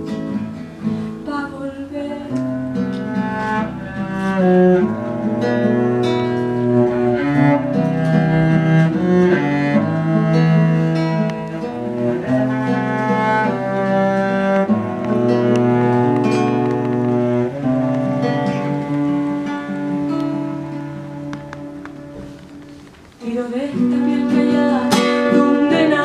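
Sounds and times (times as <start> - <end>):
bowed strings melody: 0.0 - 26.0
plucked acoustic guitar: 0.0 - 26.0.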